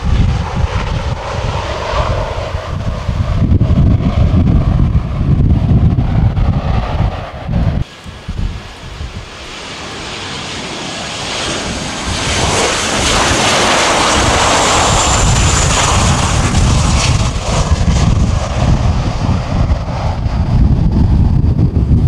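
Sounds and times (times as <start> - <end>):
high fan whine: 0.0 - 22.0
jet engine roar: 0.0 - 22.0
jet rolling on runway: 0.0 - 22.0.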